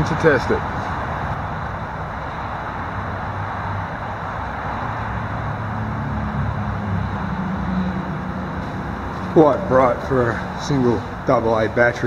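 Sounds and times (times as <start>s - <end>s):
low engine drone: 0.0s - 12.0s
road traffic rumble: 0.0s - 12.0s.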